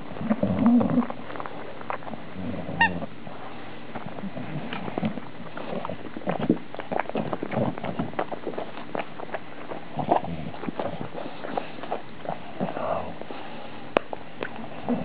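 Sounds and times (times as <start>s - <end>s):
puppy chewing plush toy: 0.0s - 15.0s.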